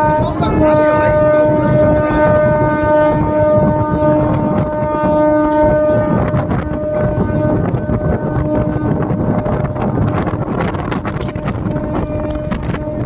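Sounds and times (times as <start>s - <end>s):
train horn blast: 0.0s - 13.0s
train running rumble: 0.0s - 13.0s
wind on microphone: 0.0s - 13.0s.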